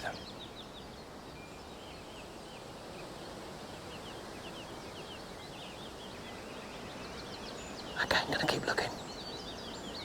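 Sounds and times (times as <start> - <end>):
outdoor ambient hiss: 0.0 - 10.0
small birds chirping: 0.0 - 10.0.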